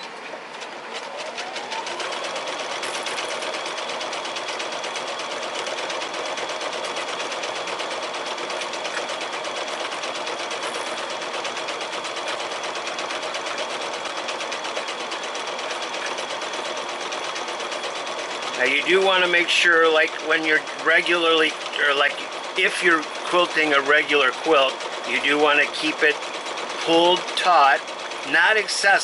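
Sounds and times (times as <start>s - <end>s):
sewing machine motor whine: 0.0s - 29.0s
sewing needle ticking: 1.8s - 18.6s, 20.2s - 28.7s.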